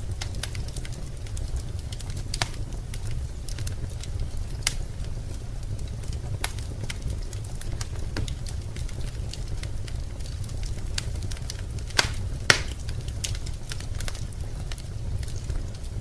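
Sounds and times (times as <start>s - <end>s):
fire low rumble: 0.0s - 16.0s
wood fire crackling: 0.0s - 16.0s
wood fire popping: 0.0s - 16.0s.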